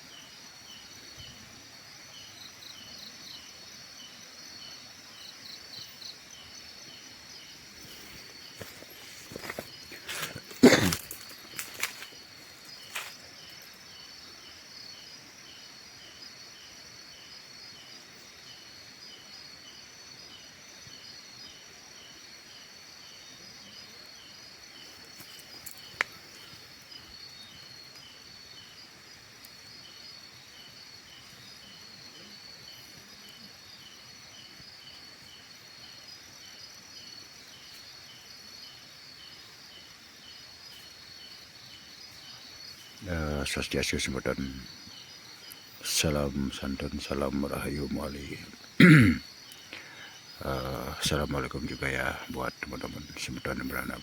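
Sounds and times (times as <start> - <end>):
crickets trilling: 0.0 - 54.0
lower insect chirp: 0.0 - 54.0.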